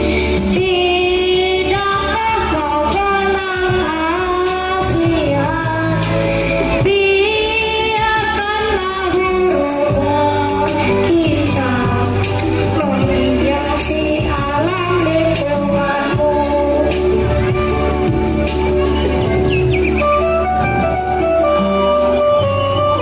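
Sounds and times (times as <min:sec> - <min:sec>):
backing music with bass line: 0:00.0 - 0:23.0.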